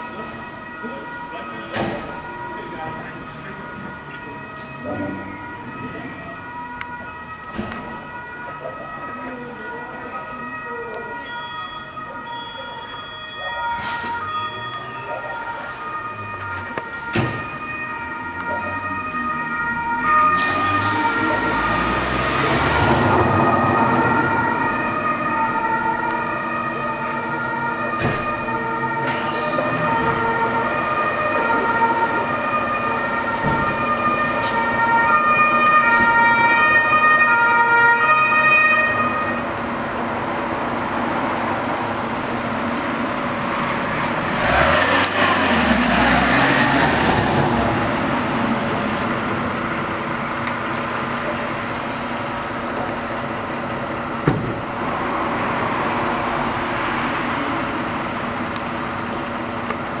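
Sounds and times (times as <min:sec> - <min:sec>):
fire engines running rumble: 0:00.0 - 1:00.0
fire truck driving past: 0:00.0 - 1:00.0
two-tone fire engine siren: 0:00.0 - 1:00.0.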